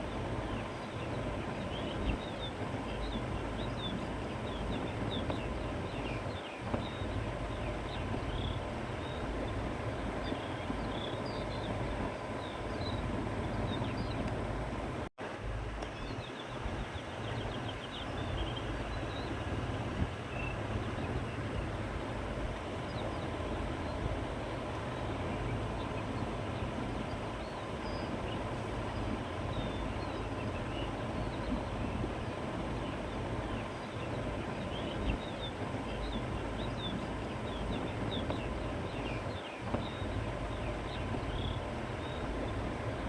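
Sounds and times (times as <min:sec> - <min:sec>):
small birds chirping: 0:00.0 - 0:14.6, 0:15.8 - 0:43.0
wind across countryside: 0:00.0 - 0:43.0
wind rumble on microphone: 0:00.0 - 0:43.0.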